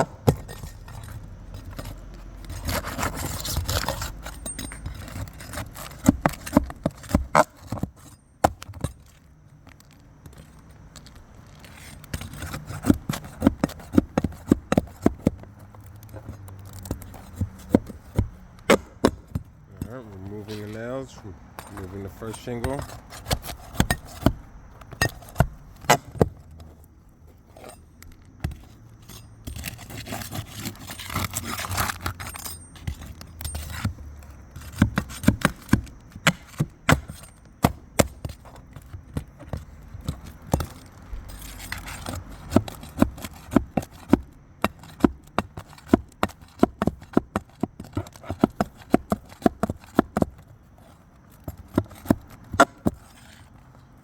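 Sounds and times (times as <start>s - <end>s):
shingle scraping: 0.0s - 54.0s.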